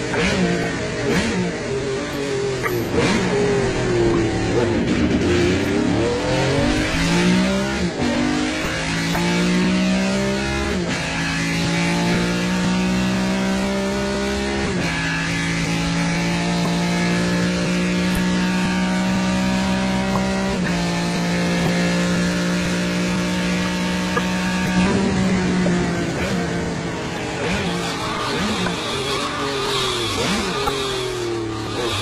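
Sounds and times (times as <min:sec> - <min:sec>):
car engine running at high revs: 0:00.0 - 0:32.0.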